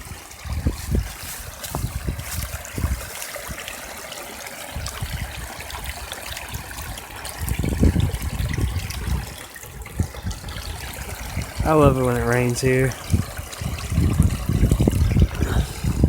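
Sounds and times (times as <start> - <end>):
stream trickling and flowing: 0.0 - 16.0.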